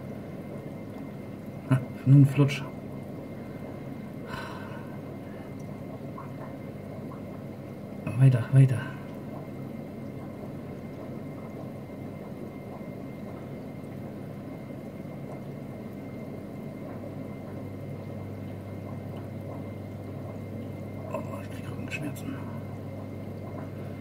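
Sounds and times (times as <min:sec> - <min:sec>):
low pump hum: 0:00.0 - 0:24.0
water trickling and gurgling: 0:00.0 - 0:24.0.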